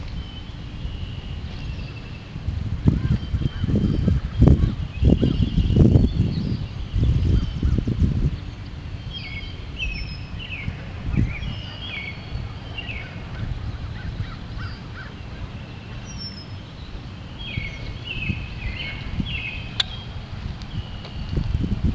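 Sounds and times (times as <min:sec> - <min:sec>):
wild birds calling: 0:02.9 - 0:21.4.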